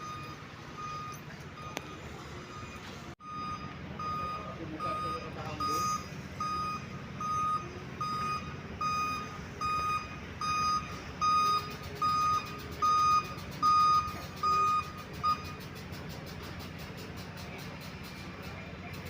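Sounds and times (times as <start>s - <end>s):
diesel engine rumble: 0.0s - 19.0s
reversing alarm beeping: 0.0s - 19.0s.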